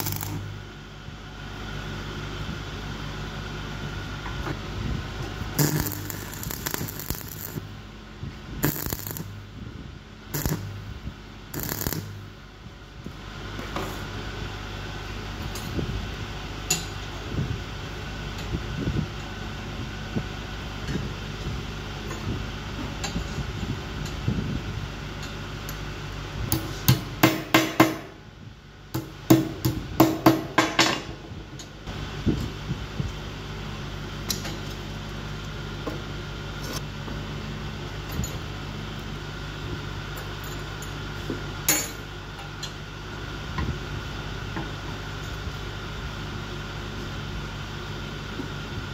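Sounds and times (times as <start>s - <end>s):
background hum: 0.0s - 48.9s.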